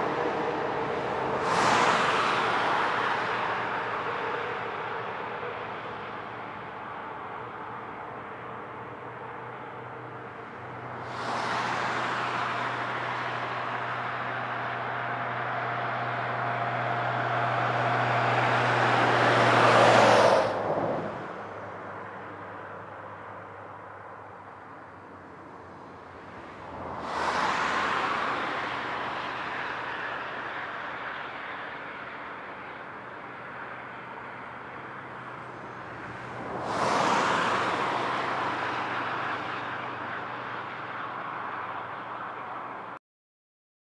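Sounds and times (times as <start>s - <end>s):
street traffic noise: 0.0s - 43.0s.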